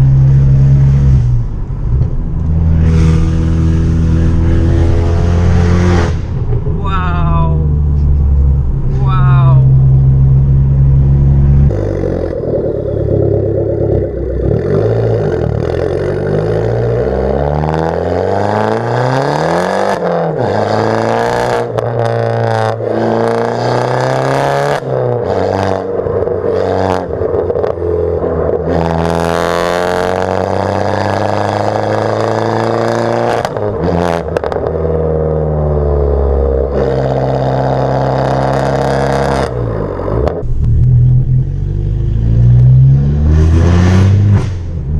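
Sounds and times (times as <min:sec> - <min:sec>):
car engine revving through gears: 0:00.0 - 0:06.8, 0:07.6 - 0:44.9.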